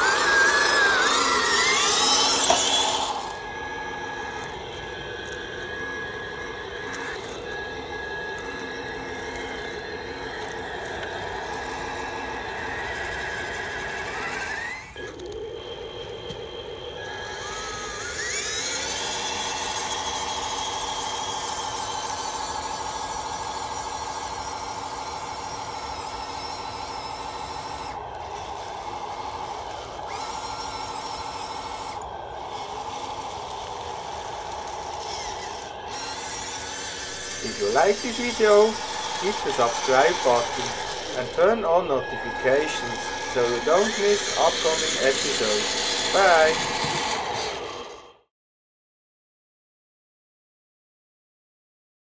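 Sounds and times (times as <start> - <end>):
electric motor whine: 0.0 - 48.2
simulated diesel engine sound: 0.0 - 48.2.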